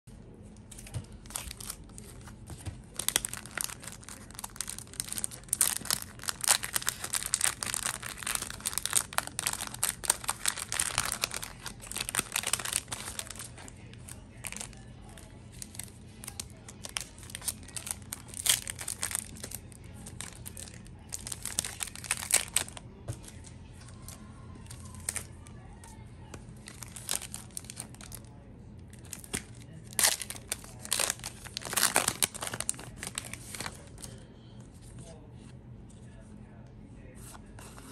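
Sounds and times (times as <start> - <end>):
plastic and foil crinkling: 0.6 - 35.0.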